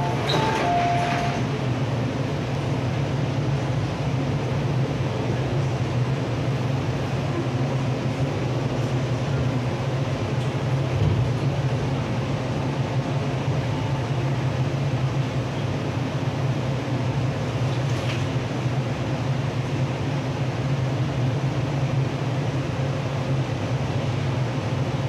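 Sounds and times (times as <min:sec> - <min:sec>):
electric train low rumble: 0:00.0 - 0:25.0.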